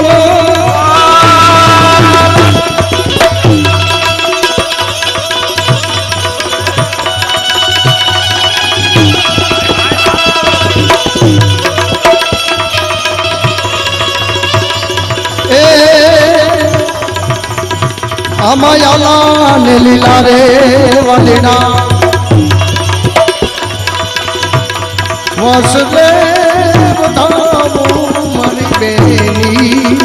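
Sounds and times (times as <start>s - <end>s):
tabla playing a steady rhythm: 0.0s - 30.0s.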